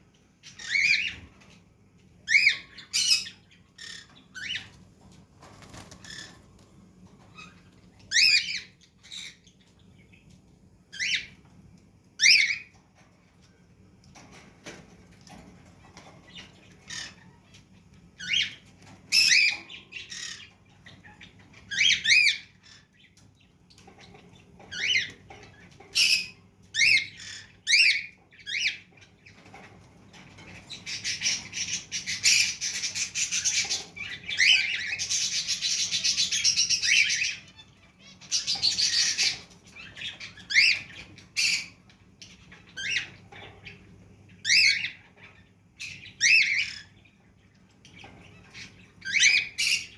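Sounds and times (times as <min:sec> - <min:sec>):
cage birds chirping and squawking: 0:00.0 - 0:49.9.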